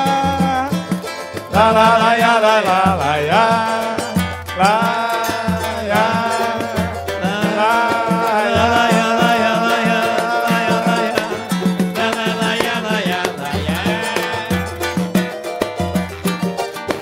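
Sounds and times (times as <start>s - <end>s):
low percussion beat: 0.0s - 17.0s
samba band playing: 0.0s - 17.0s.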